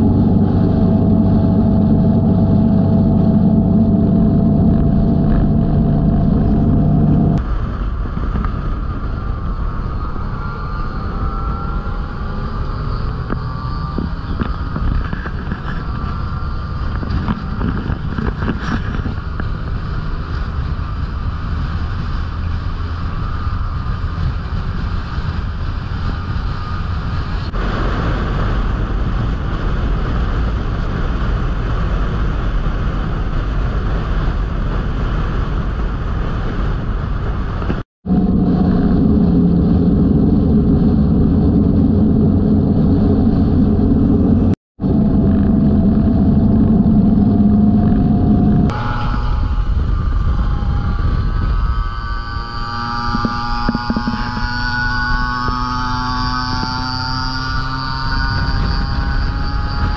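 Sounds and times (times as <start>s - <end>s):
motorcycle engine and road rumble: 0.0s - 59.9s
wind noise on microphone: 0.0s - 59.9s.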